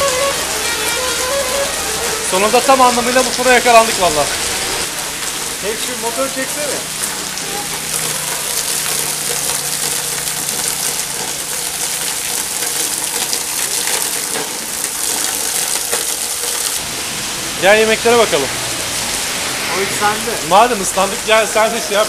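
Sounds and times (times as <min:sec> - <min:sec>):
heavy rain on pavement: 0:00.0 - 0:22.0.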